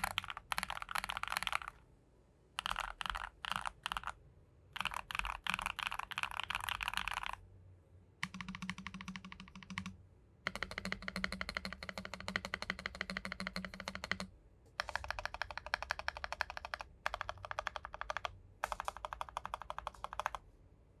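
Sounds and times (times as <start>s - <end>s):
mechanical keyboard typing: 0.0s - 1.8s, 2.6s - 4.2s, 4.8s - 7.4s, 8.2s - 20.4s.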